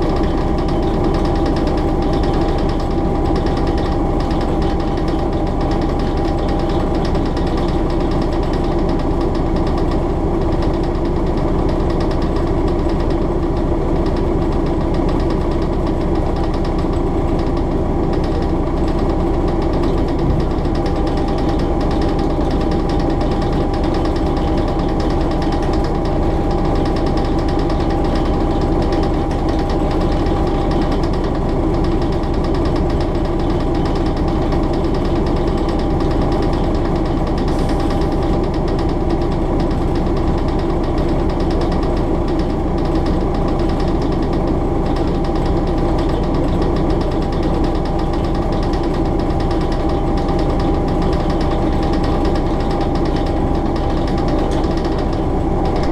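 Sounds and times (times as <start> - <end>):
steady whine: 0.0 - 55.9
train diesel engine beating: 0.0 - 55.9
wheel and rail noise: 0.0 - 55.9.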